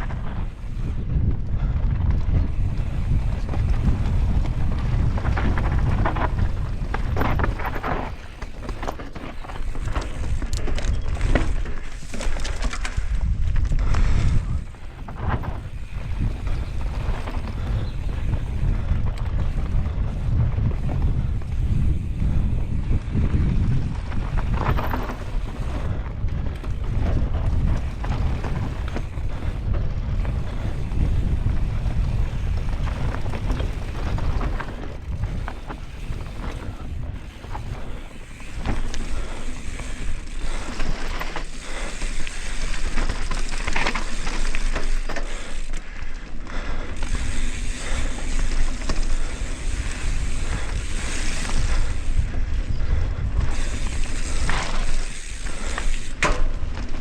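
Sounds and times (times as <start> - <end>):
bike clattering and rattling: 0.0 - 57.0
wind buffeting microphone: 0.0 - 57.0.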